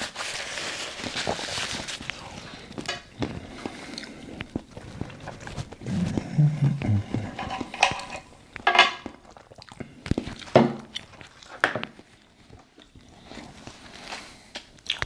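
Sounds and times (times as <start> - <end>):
person chewing: 2.0 - 15.0.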